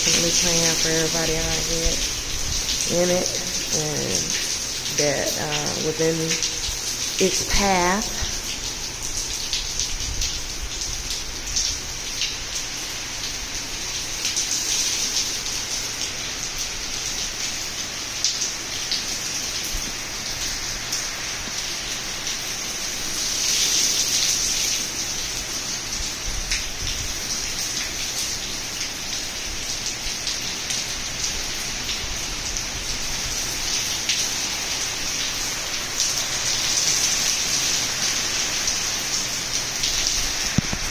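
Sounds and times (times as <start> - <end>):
heavy rain falling: 0.0 - 40.9
sharp drips and splashes: 0.0 - 40.9.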